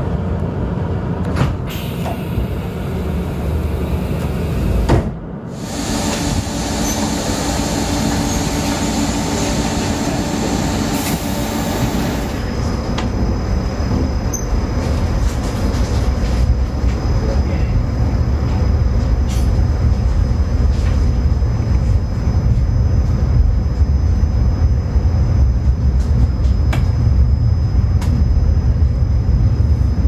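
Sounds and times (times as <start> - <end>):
train rumble and hum: 0.0 - 30.0.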